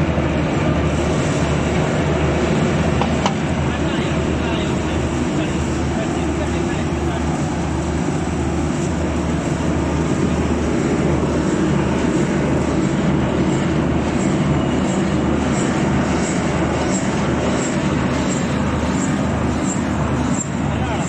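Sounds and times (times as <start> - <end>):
separator machine droning: 0.0 - 21.0.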